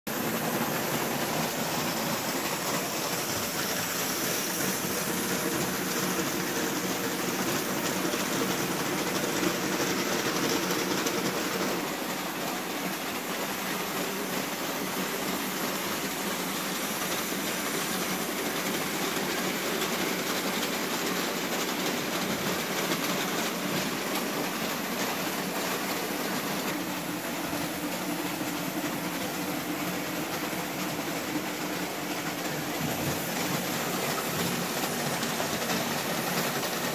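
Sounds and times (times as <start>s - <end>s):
model trains running on metal track: 0.1s - 36.9s.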